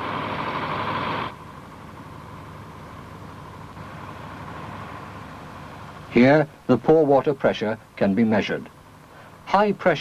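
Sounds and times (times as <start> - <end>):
background noise: 0.0 - 10.0
lorry engine running: 0.0 - 10.0.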